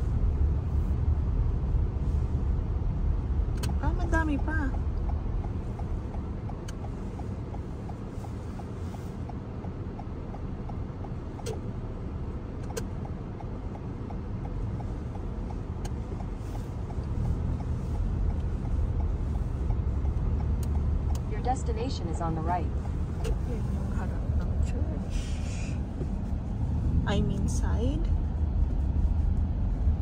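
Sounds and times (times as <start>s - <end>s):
road and engine rumble: 0.0s - 30.0s
turn signal ticking: 0.0s - 30.0s.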